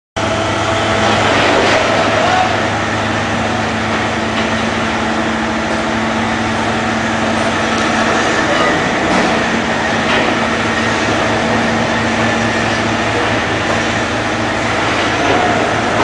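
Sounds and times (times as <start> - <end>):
crane engine droning: 0.2 - 16.0.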